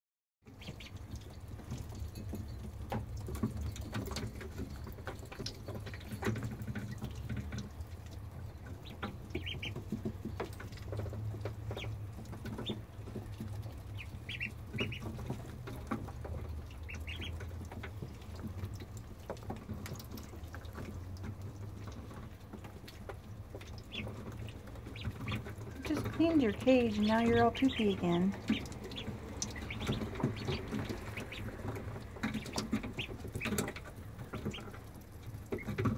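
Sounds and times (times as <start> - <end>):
ducklings peeping: 0.5 - 35.9.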